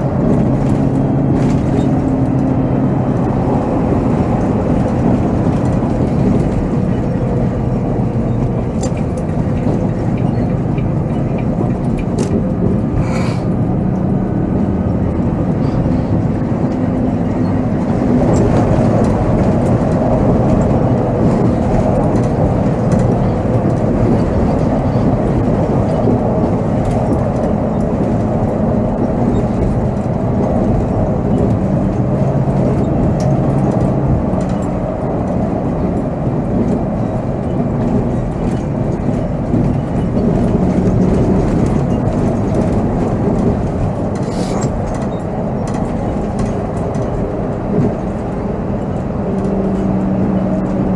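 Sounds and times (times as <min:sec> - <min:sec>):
coach diesel engine running: 0:00.0 - 0:50.9
road and cabin rumble: 0:00.0 - 0:50.9.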